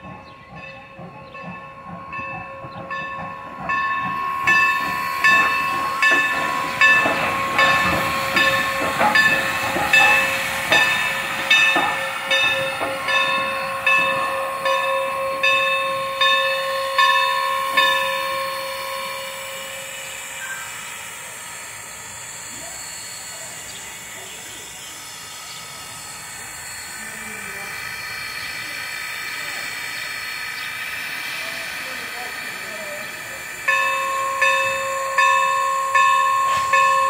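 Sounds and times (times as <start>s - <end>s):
locomotive chuffs: 0.0s - 37.0s
steam locomotive bell ringing: 0.0s - 37.0s
steam hissing: 0.1s - 37.0s.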